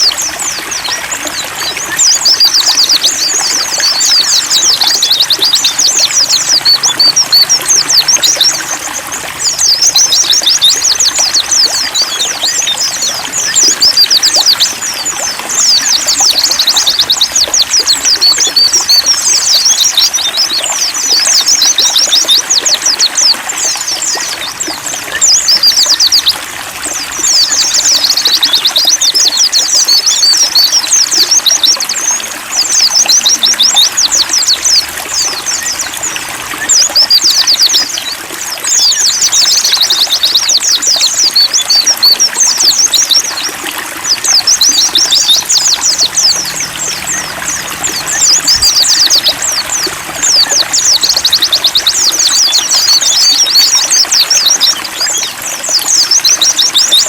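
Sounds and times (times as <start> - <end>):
birds twittering song: 0.0 - 57.0
water trickling: 0.0 - 57.0.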